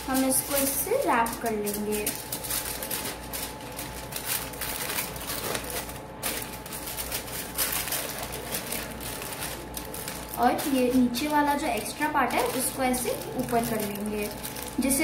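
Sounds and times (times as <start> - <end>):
foil crinkling: 0.0 - 15.0.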